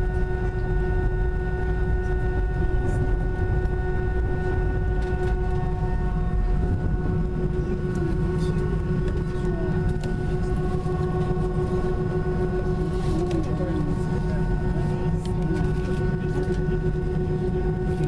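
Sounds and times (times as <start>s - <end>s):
aircraft engines rumbling: 0.0s - 18.0s.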